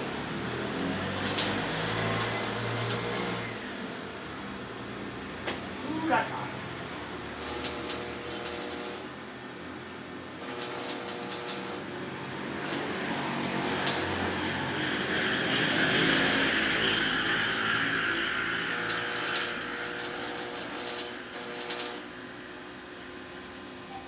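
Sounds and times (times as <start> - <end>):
arc welder buzzing and sizzling: 0.0 - 23.9.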